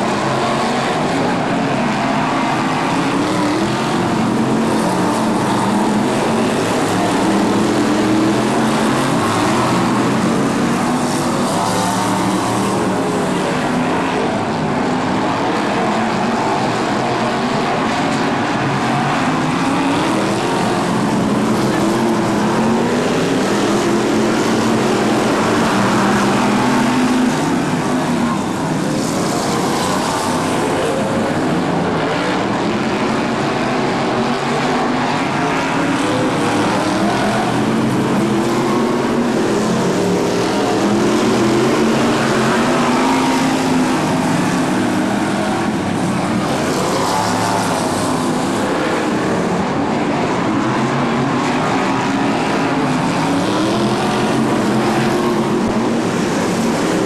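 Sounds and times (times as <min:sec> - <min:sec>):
race car engines roaring: 0:00.0 - 0:57.0.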